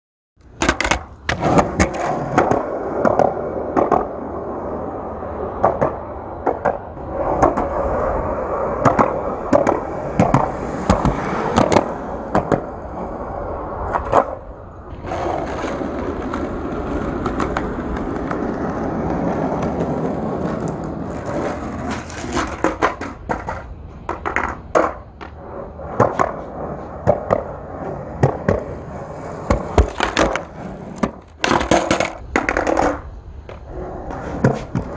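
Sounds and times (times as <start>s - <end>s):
skateboard clacking: 0.4s - 34.9s
skateboard wheels rolling on pavement: 0.4s - 34.9s.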